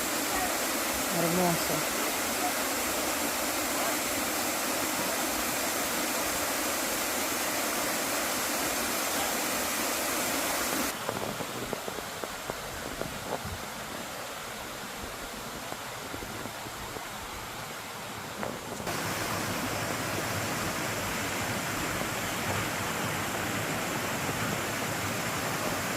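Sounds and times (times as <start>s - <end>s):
water rushing: 0.0s - 25.9s.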